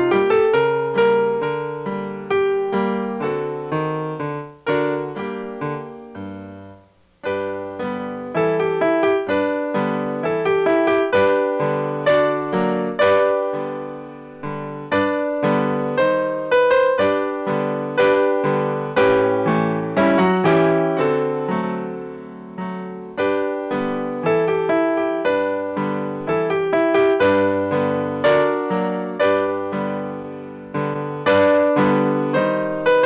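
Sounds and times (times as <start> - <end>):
solo piano playing: 0.0 - 33.0.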